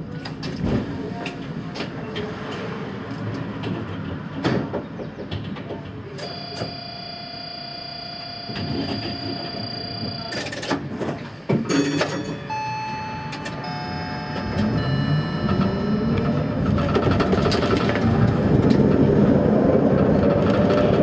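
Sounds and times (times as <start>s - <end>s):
tram equipment rumble: 0.0s - 21.0s.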